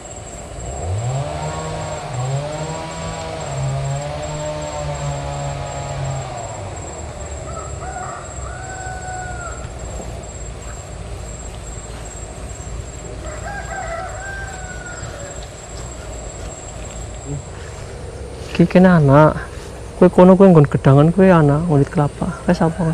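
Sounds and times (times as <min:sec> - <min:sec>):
steady background noise: 0:00.0 - 0:22.9
rooster crowing: 0:00.8 - 0:20.0, 0:21.6 - 0:22.9.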